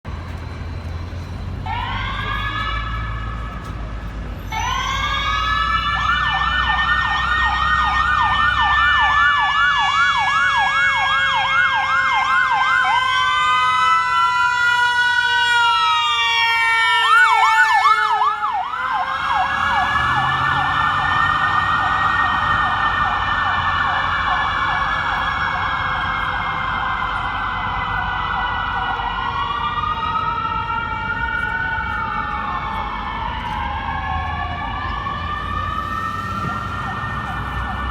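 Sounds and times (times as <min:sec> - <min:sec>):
low vehicle rumble: 0:00.0 - 0:10.3, 0:11.7 - 0:37.9
ambulance siren wailing and yelping: 0:00.2 - 0:03.8, 0:04.4 - 0:37.9.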